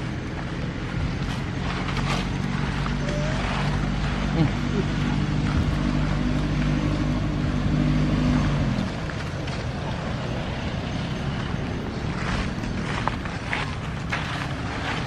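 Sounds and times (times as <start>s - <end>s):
motor engine humming: 0.0s - 15.0s
outdoor noise: 0.0s - 15.0s.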